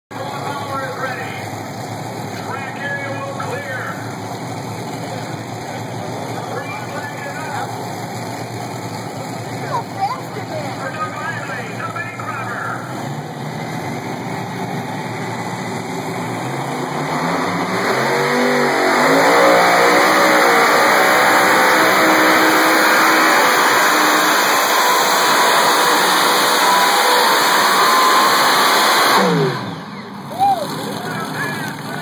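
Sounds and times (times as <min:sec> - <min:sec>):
tractor engines at full throttle: 0:00.1 - 0:32.0.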